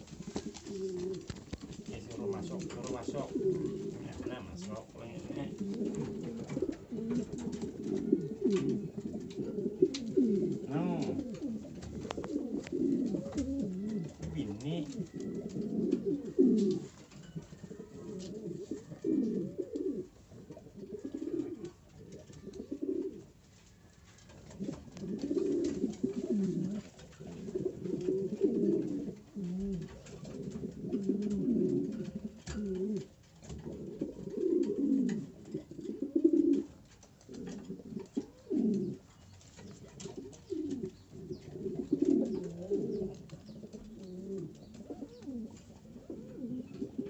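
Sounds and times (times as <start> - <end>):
pigeon cooing: 0.0 - 47.0.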